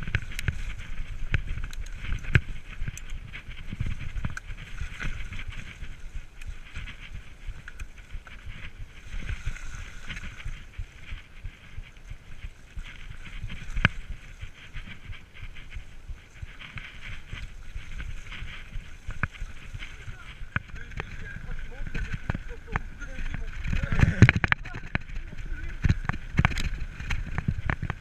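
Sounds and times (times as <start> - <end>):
bike rattling over rough trail: 0.0 - 28.0
wind on microphone: 0.0 - 28.0.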